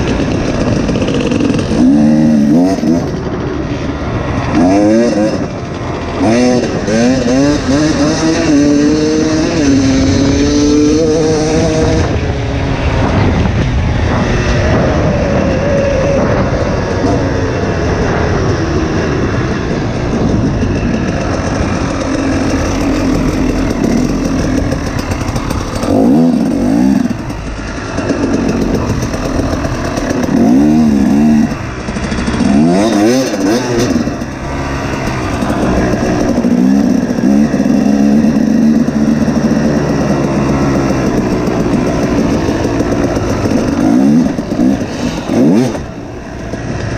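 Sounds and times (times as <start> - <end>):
two-stroke dirt bike engine revving: 0.0 - 46.9.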